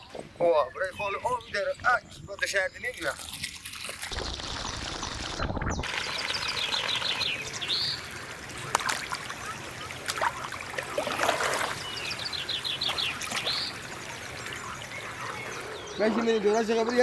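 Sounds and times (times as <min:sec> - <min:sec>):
songbird singing: 0:00.0 - 0:03.2, 0:04.2 - 0:10.4, 0:11.3 - 0:17.0
water-like noise: 0:02.4 - 0:17.0.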